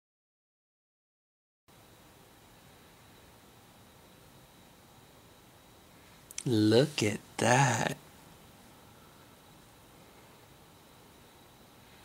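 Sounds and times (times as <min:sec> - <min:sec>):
faint high steady tone: 0:01.7 - 0:12.0.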